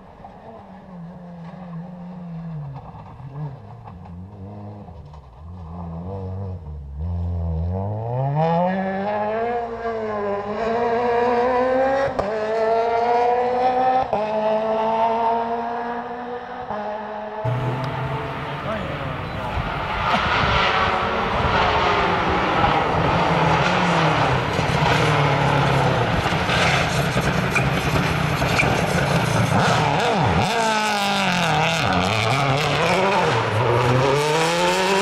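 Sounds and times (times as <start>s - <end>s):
rally car engine accelerating: 0.1s - 35.0s.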